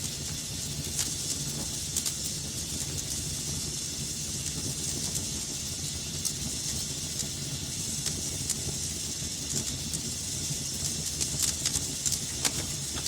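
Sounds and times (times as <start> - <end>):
fire crackles: 0.0 - 13.0
flames hissing and rumbling: 0.0 - 13.0.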